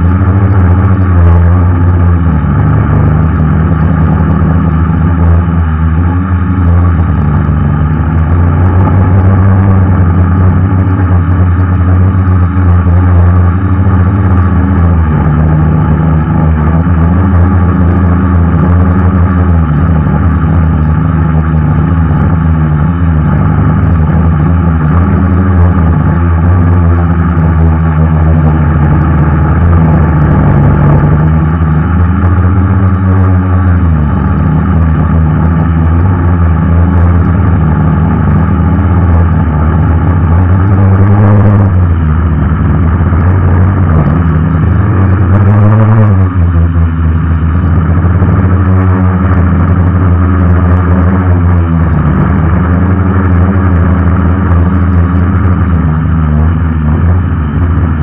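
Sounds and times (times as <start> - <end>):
quadcopter motors and propellers: 0.0 - 58.0.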